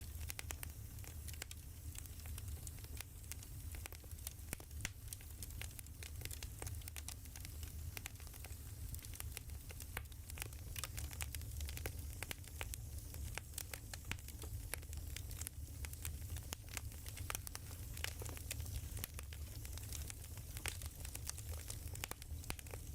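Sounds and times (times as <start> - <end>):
firewood crackling and popping: 0.0 - 22.9.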